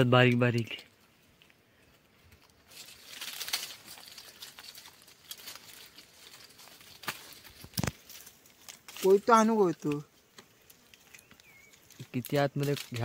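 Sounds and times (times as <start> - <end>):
wood snapping: 2.4 - 13.0.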